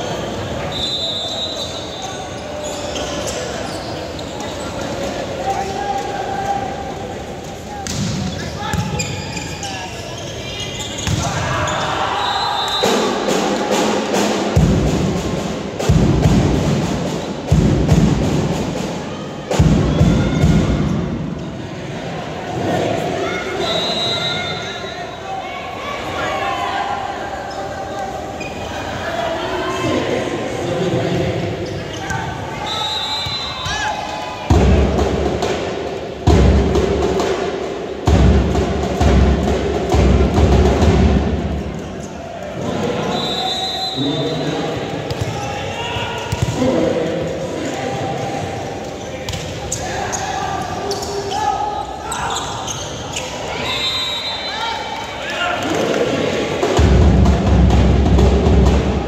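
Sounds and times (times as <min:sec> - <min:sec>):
crowd noise: 0:00.0 - 0:59.0.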